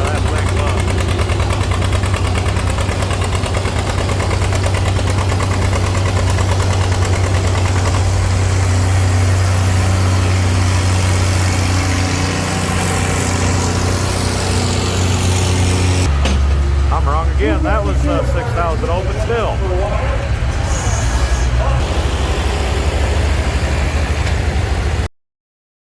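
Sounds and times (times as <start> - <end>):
tractor engine running under load: 0.0 - 25.1.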